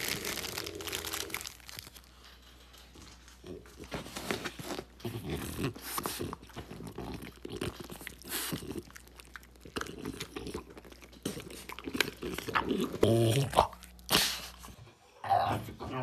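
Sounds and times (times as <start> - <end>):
dog crunching bread crust: 0.0 - 14.8.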